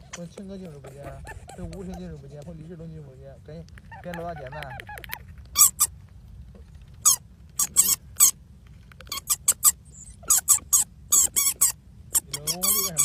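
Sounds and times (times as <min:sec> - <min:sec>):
mouse squeaking: 0:00.0 - 0:05.9, 0:07.0 - 0:08.4, 0:09.1 - 0:13.0.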